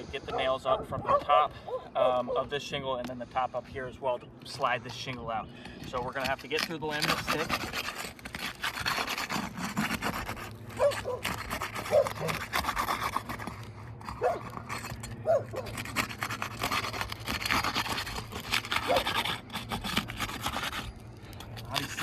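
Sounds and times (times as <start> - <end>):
roof shingle scraping: 0.9 - 22.0.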